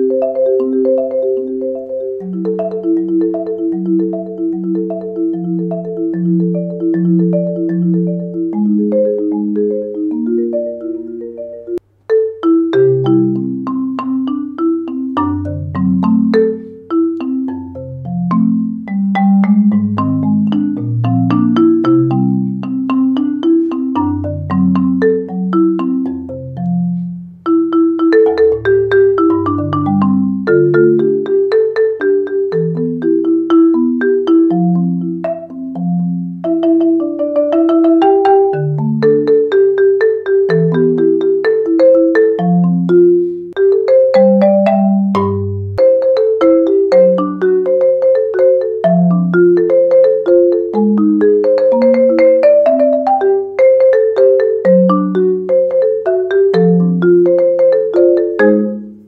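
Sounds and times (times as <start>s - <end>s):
marimba played with mallets: 0.0s - 59.0s.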